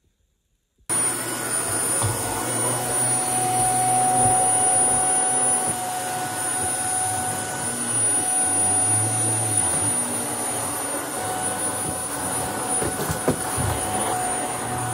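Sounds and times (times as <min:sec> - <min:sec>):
vacuum cleaner running: 0:00.9 - 0:14.9.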